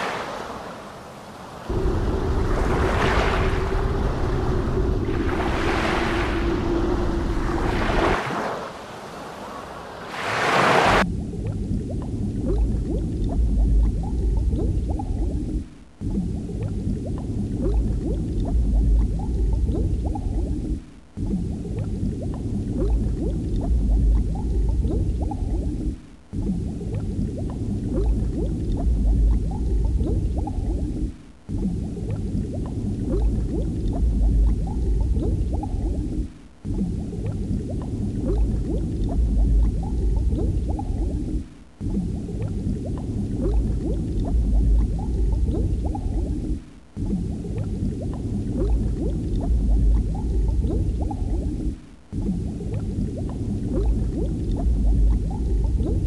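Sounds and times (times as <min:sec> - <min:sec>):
bubbling gurgling water: 0:01.7 - 0:08.5, 0:11.0 - 0:56.0.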